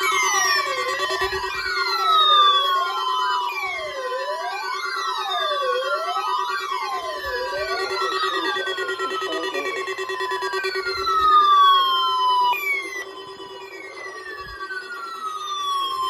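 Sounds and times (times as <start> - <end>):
steady droning tone: 0.0 - 4.5, 5.4 - 16.0
electronic siren wailing: 0.0 - 16.0.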